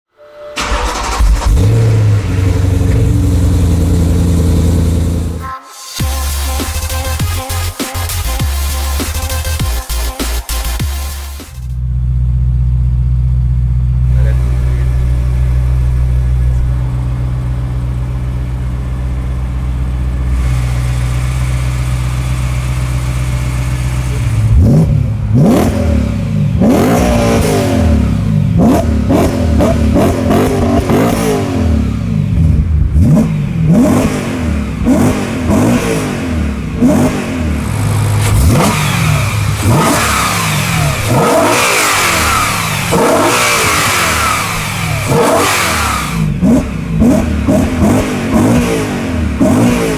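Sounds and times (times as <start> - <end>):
car engine idling and revving: 0.6 - 5.4, 6.0 - 49.9.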